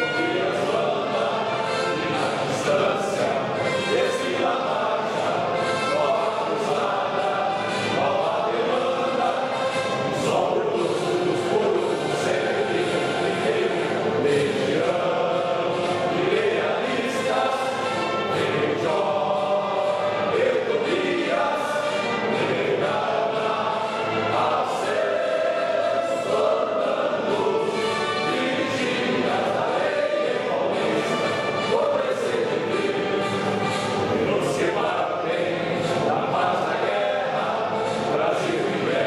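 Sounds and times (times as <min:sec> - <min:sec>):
choir singing: 0:00.0 - 0:39.0
instrumental accompaniment: 0:00.0 - 0:39.0.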